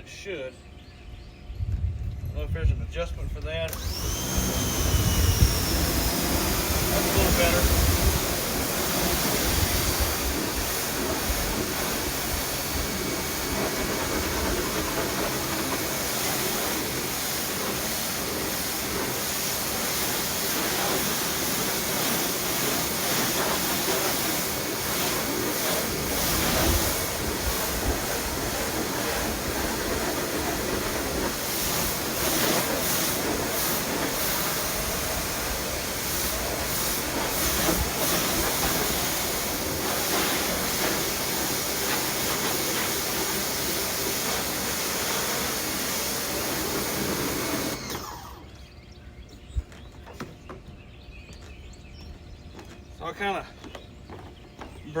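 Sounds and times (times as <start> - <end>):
pressure washer spraying wood: 3.5 - 48.6.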